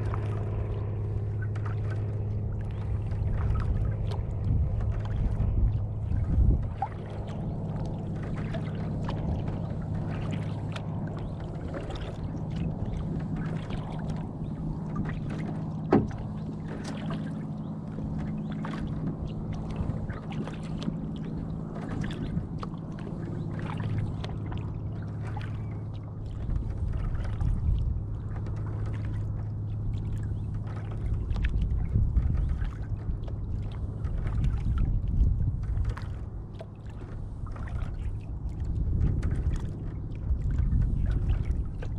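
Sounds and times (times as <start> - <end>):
low steady hum: 0.0 - 41.9
paddle splashing water: 0.0 - 41.9.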